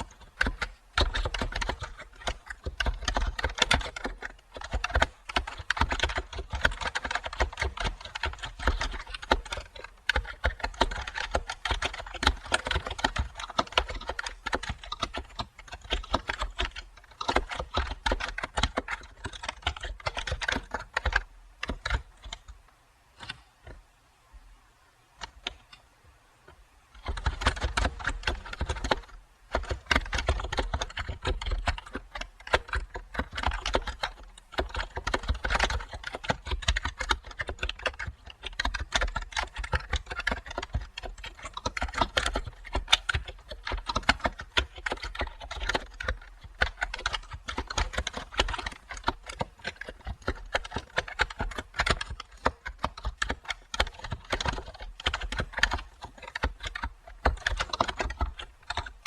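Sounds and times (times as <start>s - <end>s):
keyboard typing: 0.0s - 22.6s, 25.2s - 25.8s, 26.5s - 59.0s.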